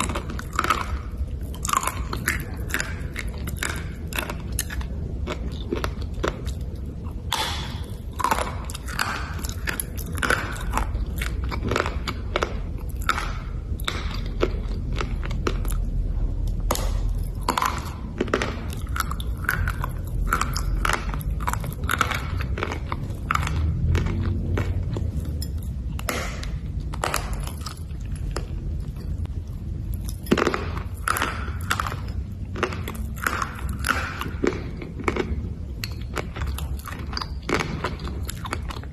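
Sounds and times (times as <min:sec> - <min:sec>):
chewing hard slate crunches: 0:00.0 - 0:38.9.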